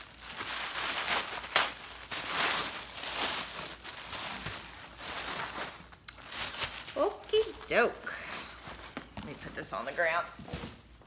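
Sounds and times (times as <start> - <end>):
sharp paper crackle: 0.0 - 8.9
tissue paper rustling: 0.0 - 11.0.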